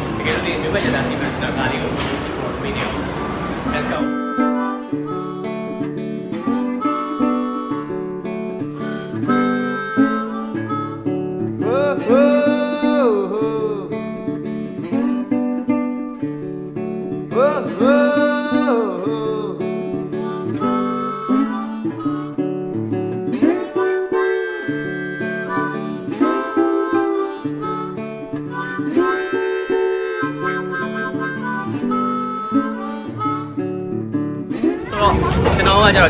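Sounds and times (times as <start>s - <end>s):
acoustic guitar: 0.0s - 36.0s
harmonica playing: 2.6s - 34.9s.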